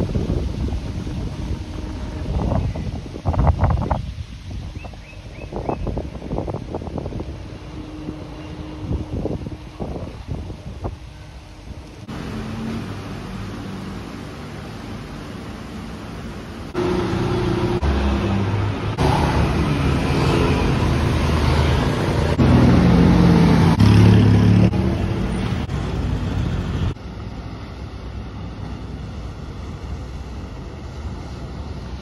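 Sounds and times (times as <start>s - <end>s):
river water: 0.0s - 32.0s
wind: 0.0s - 32.0s
car and motorbike engines: 4.7s - 32.0s.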